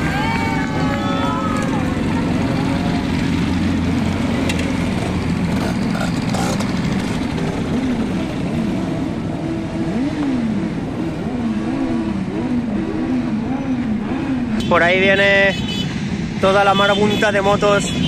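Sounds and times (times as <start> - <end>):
motorcycle engine running: 0.0 - 14.6
other motorcycles running: 0.0 - 18.0.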